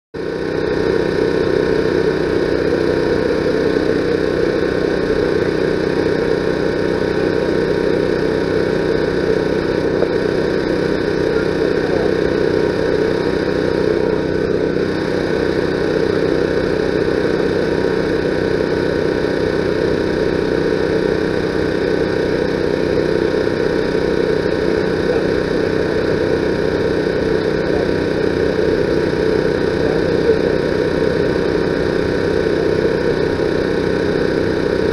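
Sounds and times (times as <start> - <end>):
steady engine hum: 0.2 - 34.9.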